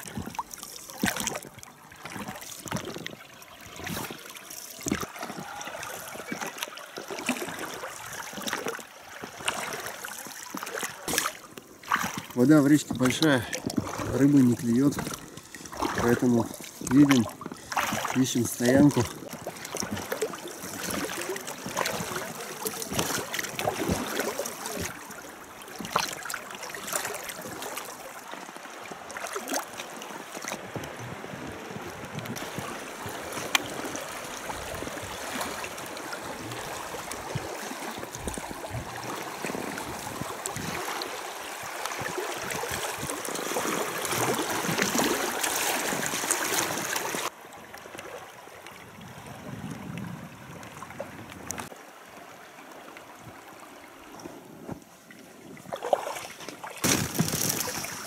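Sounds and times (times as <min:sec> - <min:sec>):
river water rushing and splashing: 0:00.0 - 0:49.6, 0:50.3 - 0:58.0.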